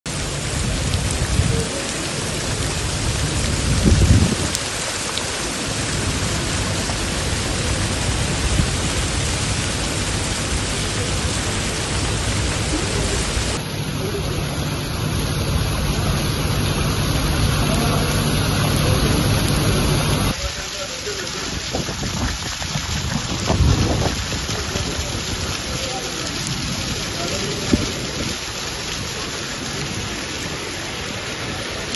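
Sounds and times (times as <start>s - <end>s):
heavy rain on pavement: 0.0s - 31.9s.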